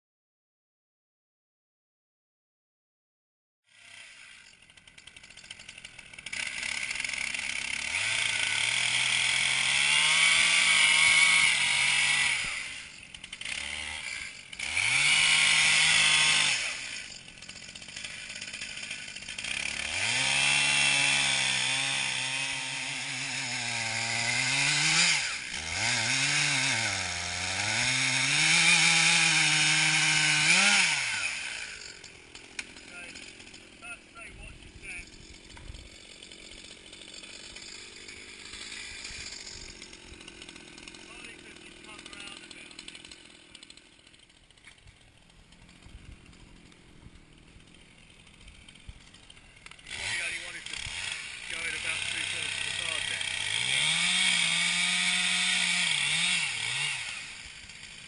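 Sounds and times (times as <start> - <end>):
chainsaw cutting wood: 3.7 - 58.0.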